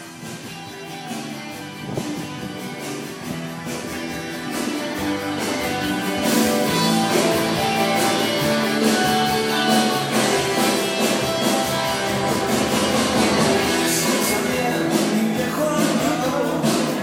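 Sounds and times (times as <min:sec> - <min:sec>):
strummed guitar music with beat: 0:00.0 - 0:17.0.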